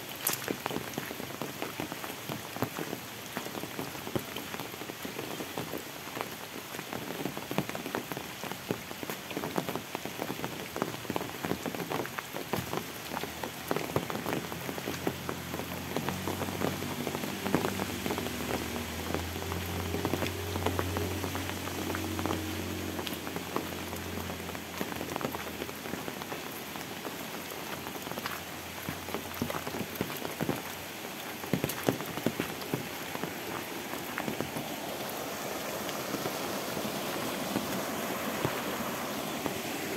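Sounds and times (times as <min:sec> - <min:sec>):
rain on road and vegetation: 0:00.0 - 0:39.9.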